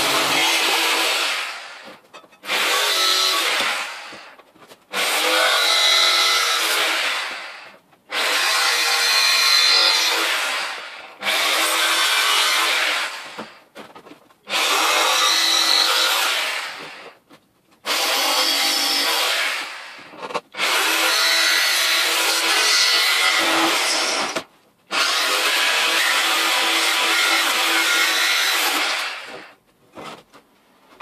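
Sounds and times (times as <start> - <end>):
jigsaw cutting metal: 0.0 - 13.6, 14.5 - 17.2, 17.8 - 29.6.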